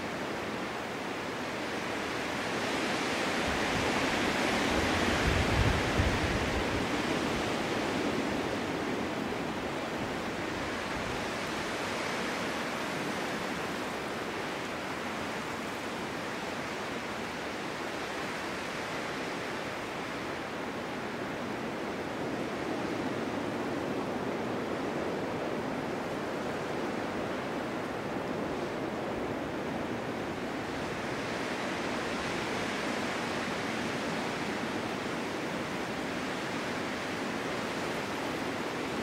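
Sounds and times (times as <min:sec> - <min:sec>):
wind blowing in snowstorm: 0:00.0 - 0:39.0.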